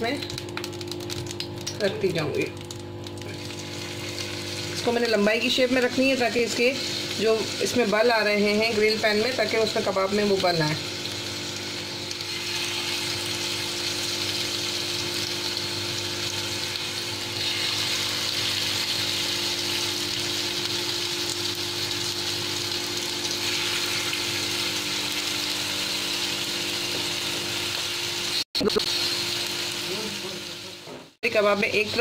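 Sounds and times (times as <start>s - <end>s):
meat sizzling in oil: 0.0s - 32.0s.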